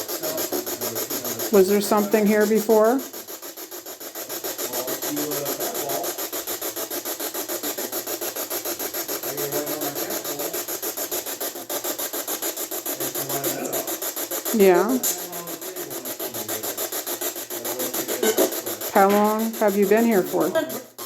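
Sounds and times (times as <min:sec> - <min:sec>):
pulsing electronic static: 0:00.0 - 0:21.0.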